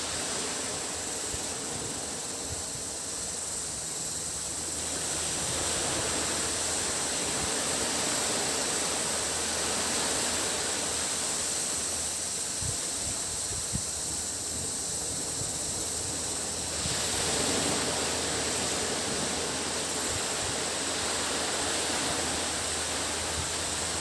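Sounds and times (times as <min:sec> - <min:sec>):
cicadas droning: 0:00.0 - 0:24.0
sea waves washing onto beach: 0:00.0 - 0:24.0.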